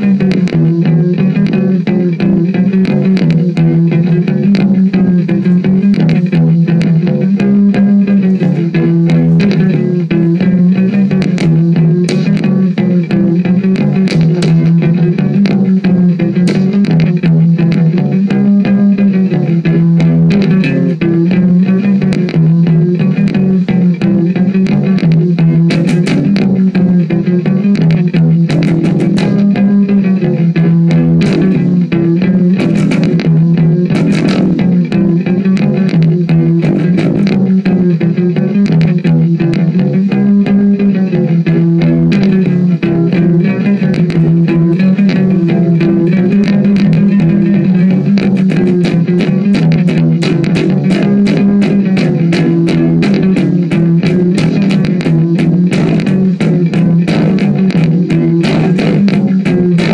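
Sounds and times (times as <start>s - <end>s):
electric bass with delay: 0.0s - 59.9s.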